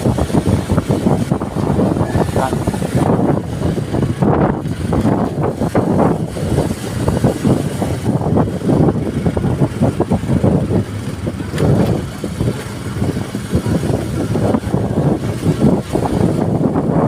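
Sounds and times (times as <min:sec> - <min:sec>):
rushing air: 0:00.0 - 0:17.0
vehicle engine: 0:00.0 - 0:17.0.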